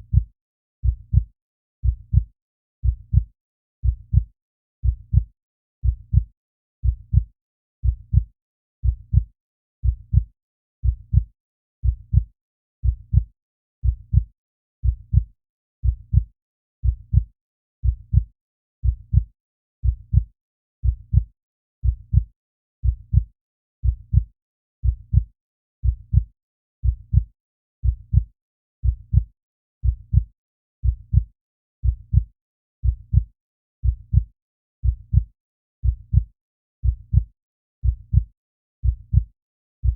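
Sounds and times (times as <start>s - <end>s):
heartbeat thuds: 0.0s - 1.2s, 1.8s - 2.2s, 2.8s - 4.2s, 4.8s - 6.2s, 8.1s - 9.2s, 9.8s - 15.3s, 16.1s - 20.3s, 21.1s - 23.3s, 24.1s - 39.9s.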